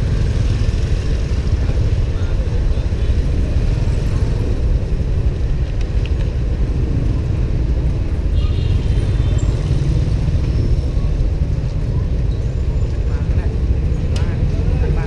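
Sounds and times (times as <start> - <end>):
traffic noise: 0.0 - 15.0.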